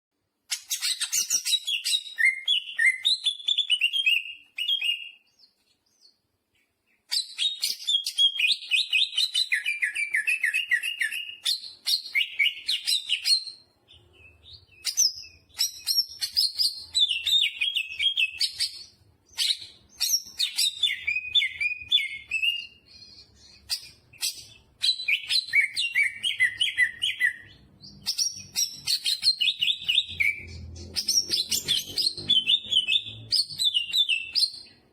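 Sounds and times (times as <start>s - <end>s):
bird singing chirped notes: 0.7s - 34.9s.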